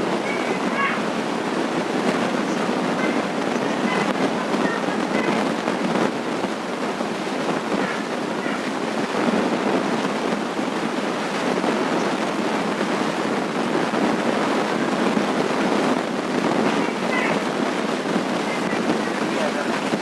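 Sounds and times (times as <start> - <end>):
steady rain-like rushing noise: 0.0 - 20.0.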